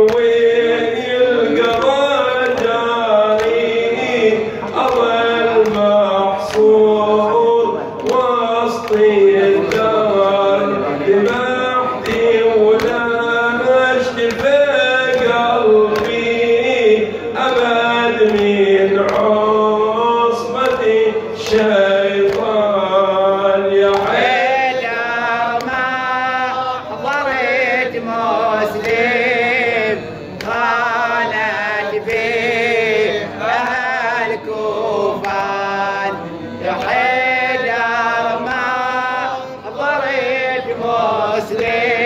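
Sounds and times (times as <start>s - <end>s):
men chanting a lament: 0.0s - 42.0s.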